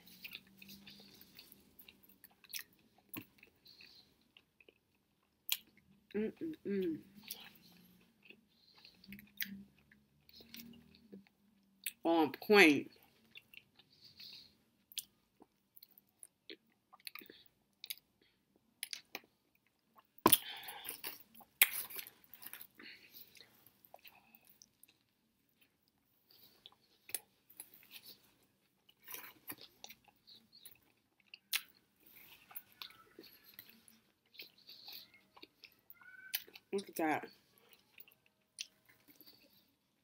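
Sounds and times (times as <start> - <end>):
chewing food: 0.0 - 12.0, 12.9 - 40.0.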